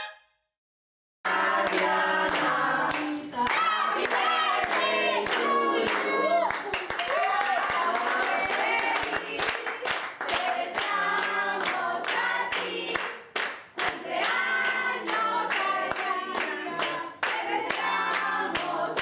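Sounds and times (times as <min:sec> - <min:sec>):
women and children singing: 0:01.3 - 0:06.7, 0:07.5 - 0:13.2, 0:13.8 - 0:19.0
people clapping: 0:01.3 - 0:19.0.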